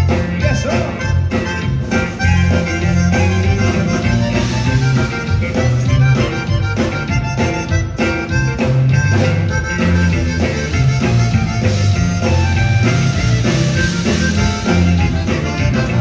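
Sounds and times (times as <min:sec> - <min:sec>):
bass line: 0:00.0 - 0:16.0
button accordion: 0:00.0 - 0:16.0
drums: 0:00.0 - 0:16.0
guitar: 0:00.0 - 0:16.0.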